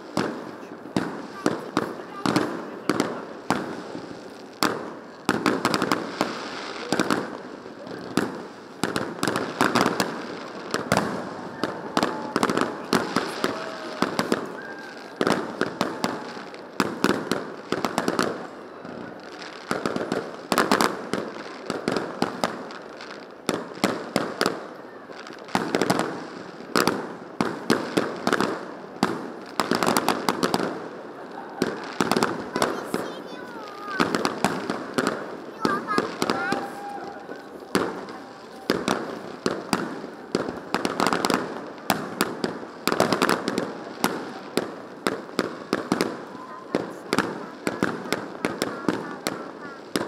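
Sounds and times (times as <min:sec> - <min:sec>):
fireworks bursts: 0:00.0 - 0:50.0.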